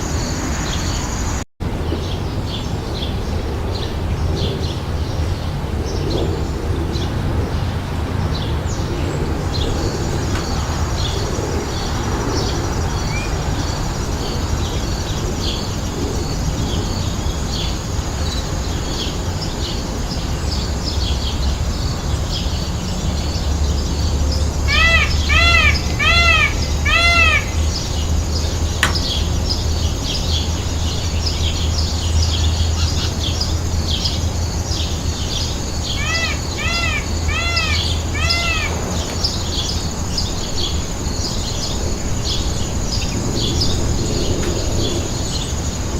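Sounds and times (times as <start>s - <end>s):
small birds chirping: 0.0s - 45.7s
loud arched bird calls: 8.3s - 45.5s.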